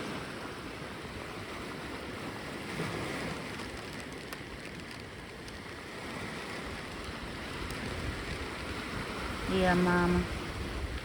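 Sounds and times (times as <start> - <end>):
ocean surf on a beach: 0.0 - 11.0.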